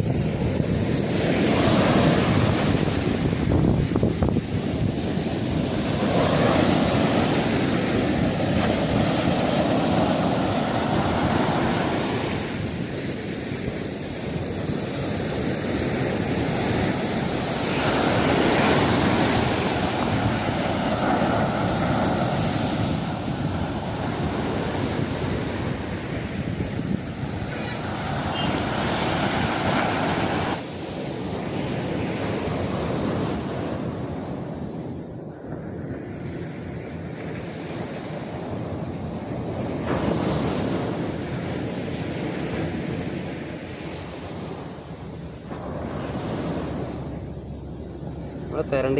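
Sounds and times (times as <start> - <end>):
sea surf breaking: 0.0 - 48.9
wind rumbling on microphone: 0.0 - 48.9.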